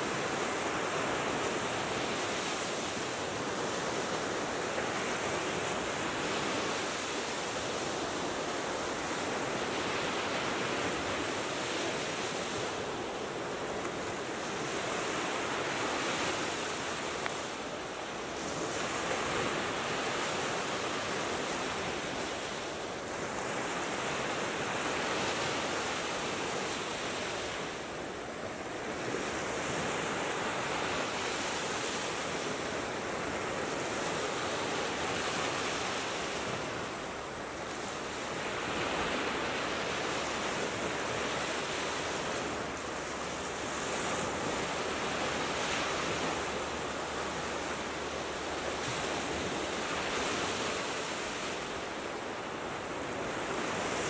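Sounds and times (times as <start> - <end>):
sea surf breaking on beach: 0.0 - 54.0.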